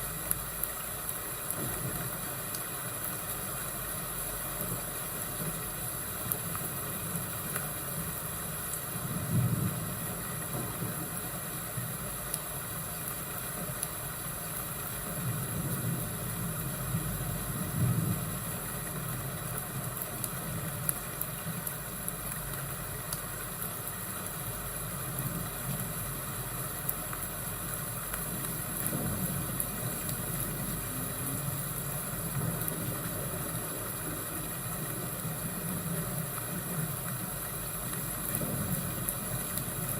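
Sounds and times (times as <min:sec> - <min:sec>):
fire crackling: 0:00.0 - 0:39.9
steady rain: 0:00.0 - 0:39.9.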